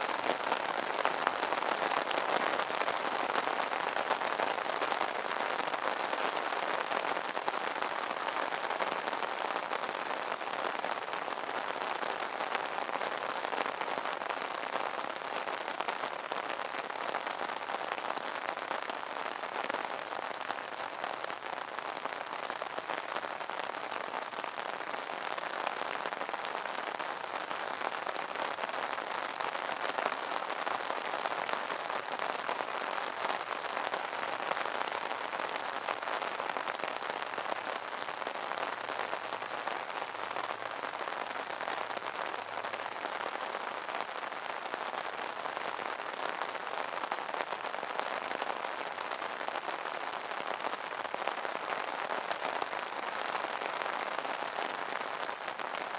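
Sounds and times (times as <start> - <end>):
rain pattering on an umbrella: 0.0 - 55.9.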